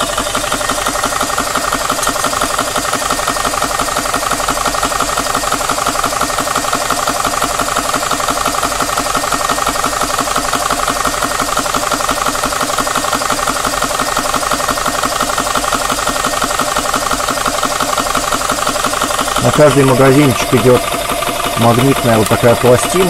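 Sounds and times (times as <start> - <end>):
air compressor pumping: 0.0 - 23.0.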